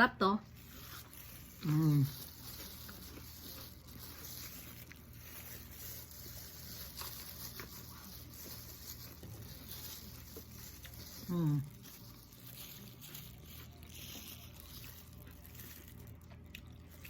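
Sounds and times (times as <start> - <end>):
faint chewing: 0.4 - 17.0.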